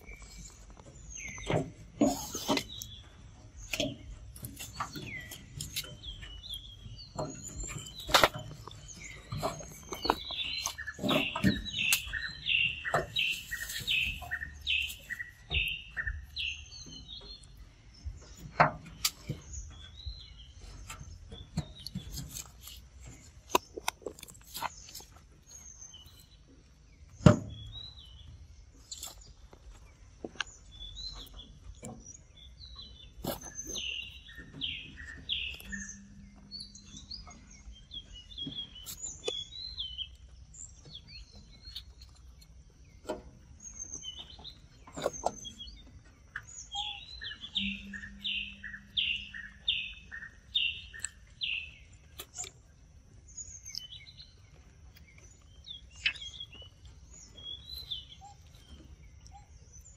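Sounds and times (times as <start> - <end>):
wild birds singing: 0.0 - 59.9.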